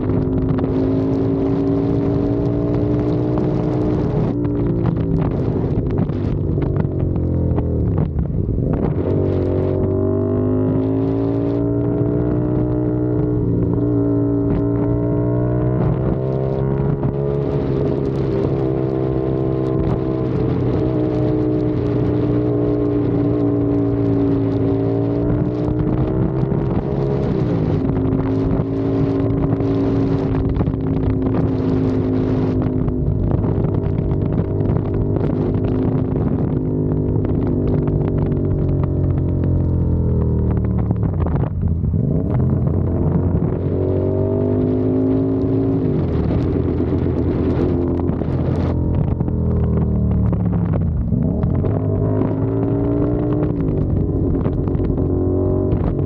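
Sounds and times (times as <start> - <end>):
motorcycle engine and exhaust: 0.0 - 56.0
wind buffeting microphone: 0.0 - 56.0.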